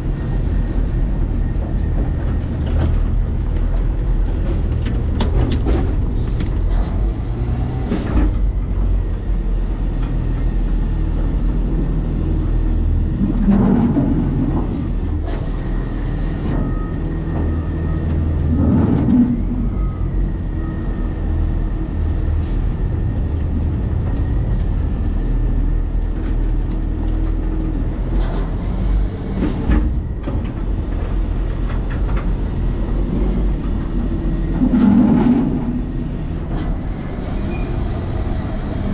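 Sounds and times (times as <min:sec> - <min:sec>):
garbage truck engine and hydraulics: 0:00.0 - 0:38.9.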